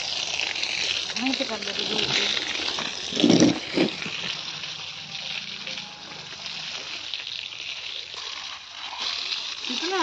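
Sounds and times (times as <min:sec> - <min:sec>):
water from hose splashing on concrete: 0:00.0 - 0:10.0.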